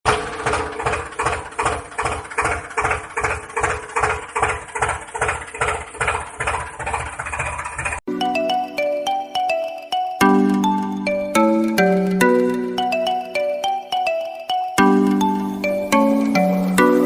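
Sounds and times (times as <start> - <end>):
tractor engine idling: 0.1 - 9.6, 10.2 - 14.2, 14.8 - 17.0.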